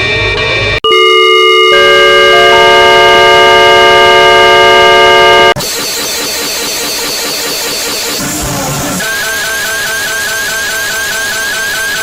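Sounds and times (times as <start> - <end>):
distorted electronic siren: 0.0 - 12.0.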